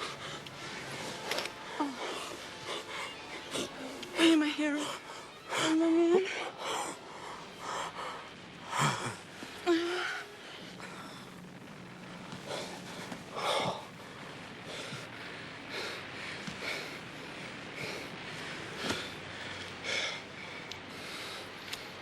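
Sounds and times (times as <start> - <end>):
people breathing hard and gasping: 0.0 - 4.2, 6.3 - 22.0.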